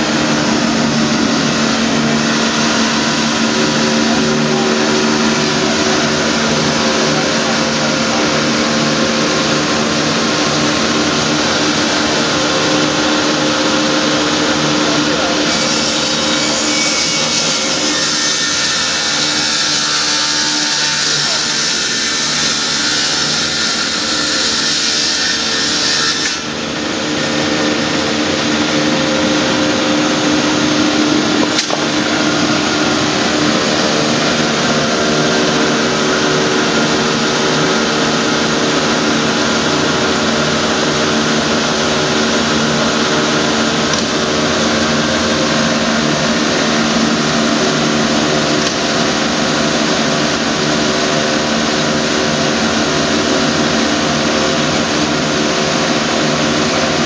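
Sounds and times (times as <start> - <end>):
rip saw running: 0.0 - 57.0.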